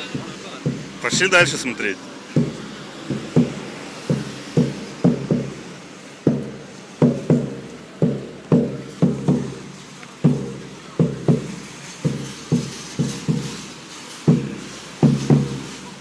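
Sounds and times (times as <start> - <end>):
hollow drum-like knocks: 0.0 - 16.0.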